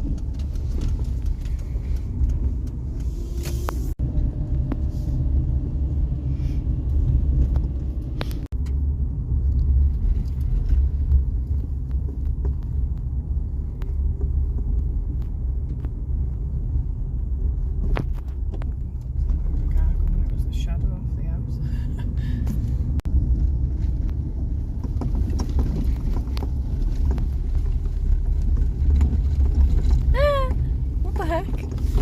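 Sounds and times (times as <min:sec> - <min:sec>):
car driving rumble inside cabin: 0:00.0 - 0:32.0.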